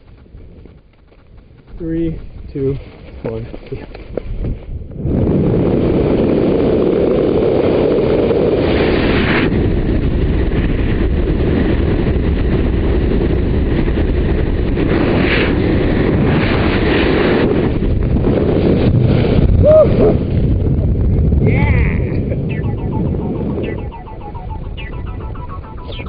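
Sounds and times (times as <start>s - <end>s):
wind buffeting a microphone: 0.0s - 26.0s.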